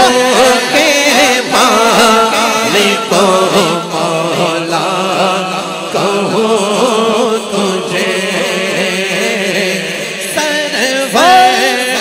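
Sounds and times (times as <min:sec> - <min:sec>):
man singing through loudspeakers: 0:00.0 - 0:12.0.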